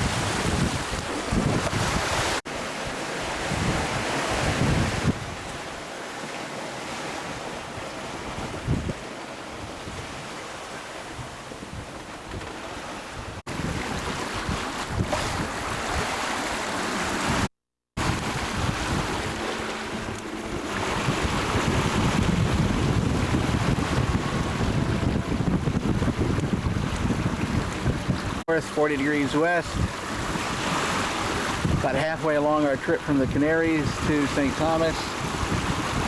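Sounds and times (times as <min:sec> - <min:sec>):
wind buffeting microphone: 0:00.0 - 0:02.4, 0:03.3 - 0:05.8, 0:07.3 - 0:10.4, 0:11.0 - 0:28.8, 0:29.5 - 0:32.2, 0:33.2 - 0:36.0
waves rushing: 0:00.0 - 0:36.0.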